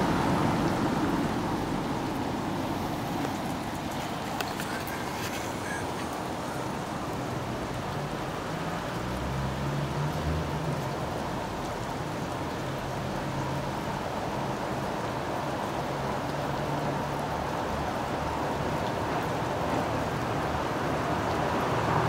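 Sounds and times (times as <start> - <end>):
street ambience hiss: 0.0 - 22.0.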